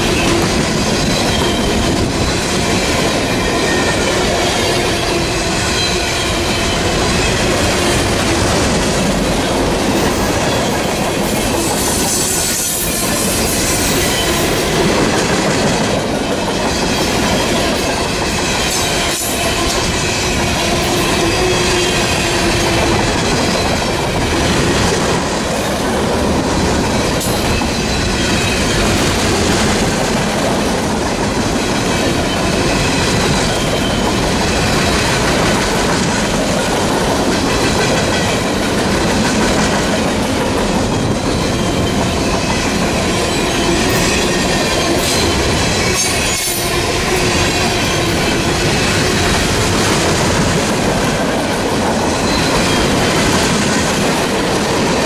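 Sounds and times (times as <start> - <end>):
train cars rumbling on rails: 0.0 - 55.0
train wheel squeal: 0.0 - 55.0.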